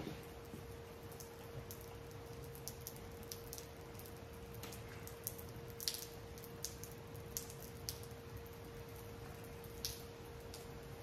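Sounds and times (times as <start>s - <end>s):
faint steady hum: 0.0s - 11.0s
rain falling: 0.0s - 11.0s.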